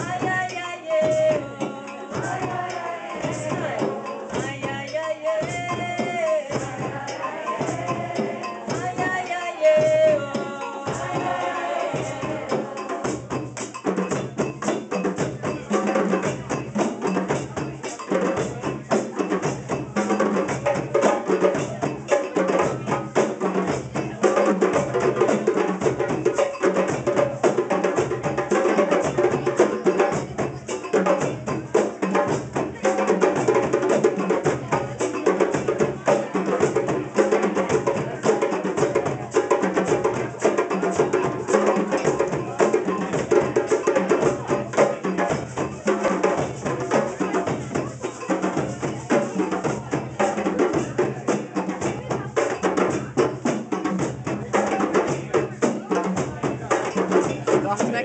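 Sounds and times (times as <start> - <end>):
djembe hand drumming: 0.0 - 58.0.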